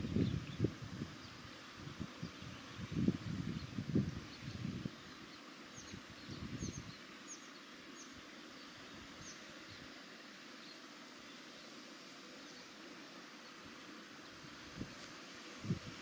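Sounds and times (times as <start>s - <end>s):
small birds chirping: 0.0s - 14.4s
faint outdoor hiss: 0.0s - 16.0s.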